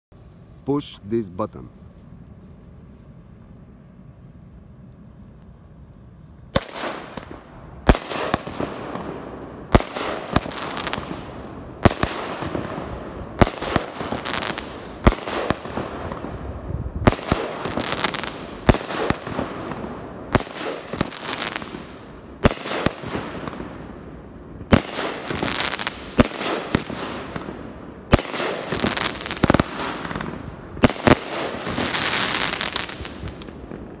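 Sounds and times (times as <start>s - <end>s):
fireworks bangs: 6.5s - 34.0s.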